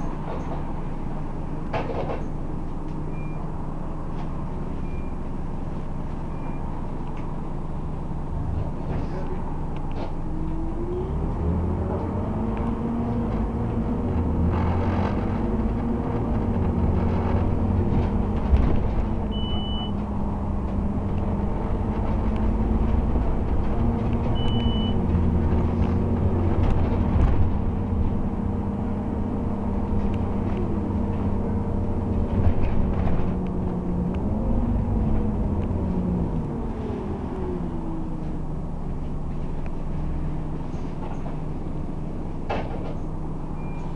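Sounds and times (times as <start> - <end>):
bus diesel engine driving: 0.0 - 43.9.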